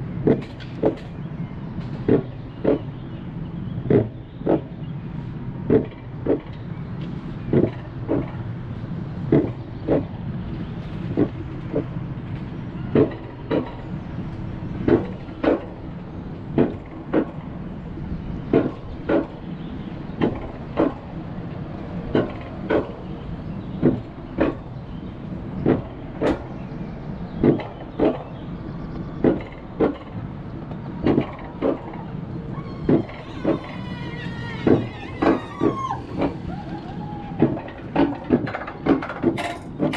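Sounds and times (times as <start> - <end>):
coaster sled rumbling on rails: 0.0 - 39.9
wheels clacking: 5.5 - 39.9.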